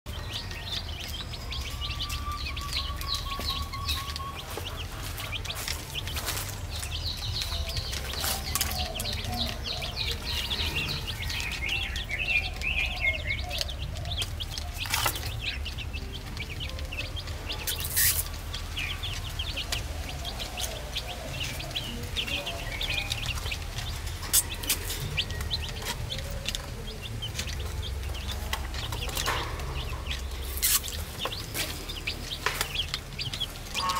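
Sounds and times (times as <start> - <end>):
baby chicks peeping: 0.1 - 33.9.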